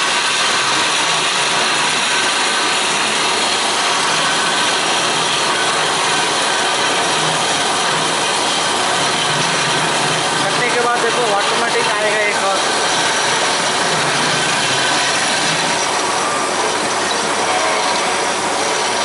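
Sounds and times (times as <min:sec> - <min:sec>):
band saw cutting metal: 0:00.0 - 0:19.0.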